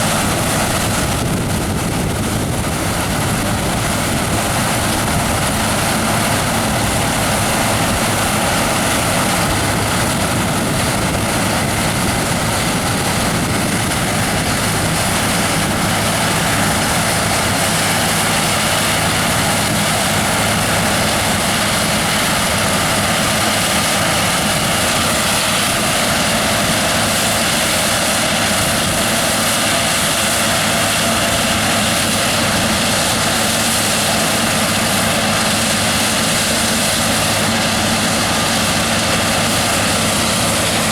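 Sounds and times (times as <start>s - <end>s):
combine harvester drone: 0.0s - 40.9s.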